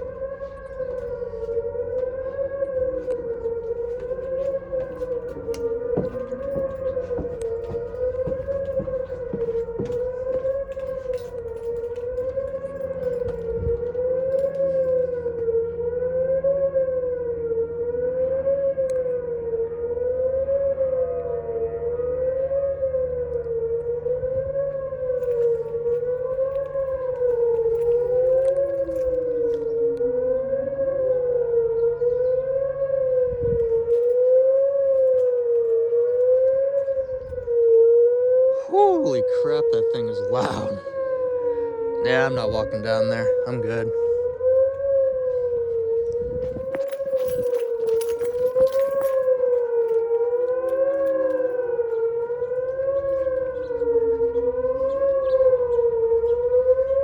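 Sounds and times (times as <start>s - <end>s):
warning siren wavering tone: 0.0s - 57.0s.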